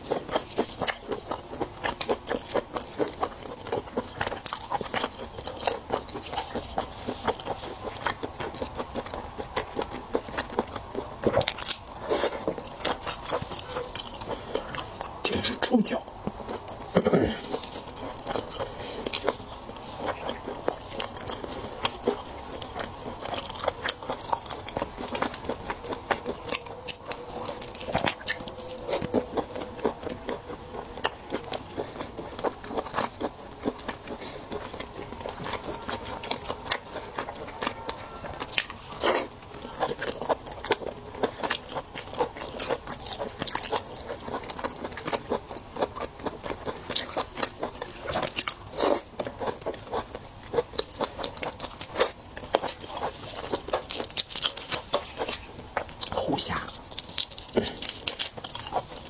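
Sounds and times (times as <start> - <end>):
wet chewing and biting: 0.0 - 59.0.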